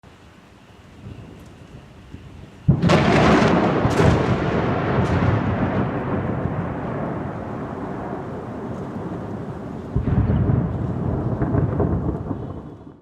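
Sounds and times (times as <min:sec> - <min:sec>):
thunder crack and rumble: 0:01.0 - 0:13.0.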